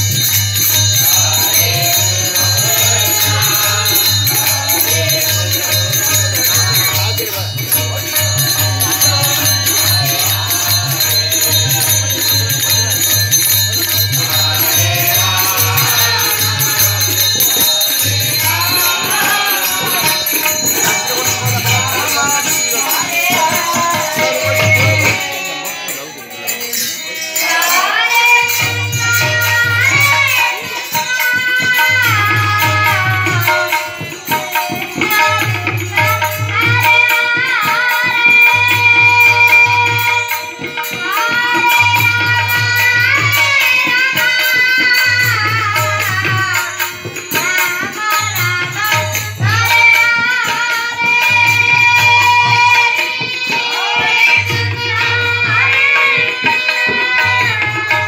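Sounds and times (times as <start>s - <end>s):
harmonium: 0.0s - 58.0s
jingling hand percussion: 0.0s - 58.0s
man singing: 0.0s - 58.0s
tabla drumming: 0.0s - 58.0s.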